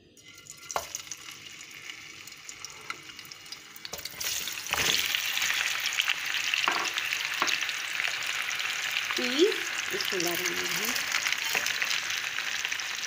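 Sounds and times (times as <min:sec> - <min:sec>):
potato slices sizzling in hot oil: 0:00.0 - 0:13.0.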